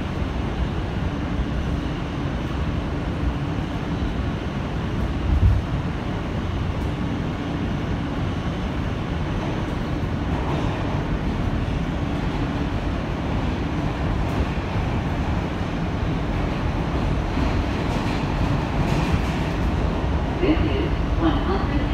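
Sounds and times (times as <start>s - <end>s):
wheels rumbling on rail: 0.0s - 21.9s.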